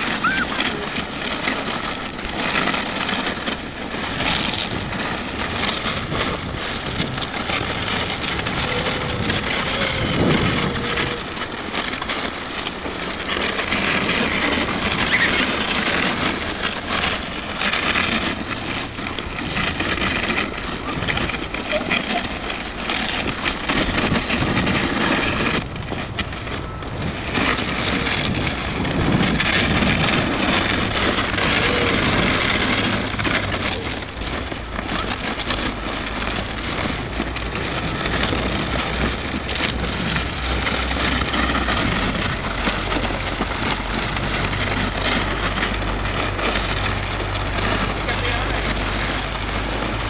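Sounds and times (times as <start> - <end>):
plastic sled scraping over snow: 0.0 - 50.0.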